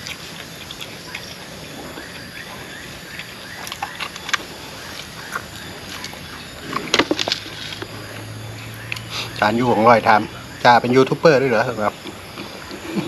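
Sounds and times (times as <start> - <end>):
person chewing: 0.0 - 9.4, 12.0 - 13.0
background hiss: 0.0 - 13.0.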